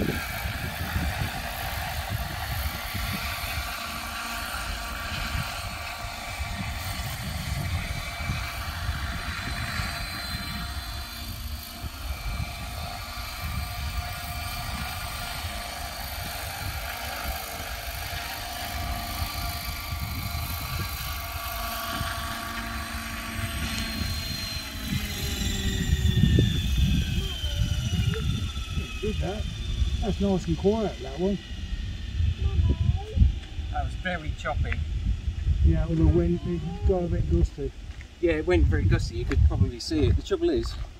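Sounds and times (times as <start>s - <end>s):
model helicopter rotor whine: 0.0s - 40.9s
wind buffeting microphone: 0.0s - 40.9s.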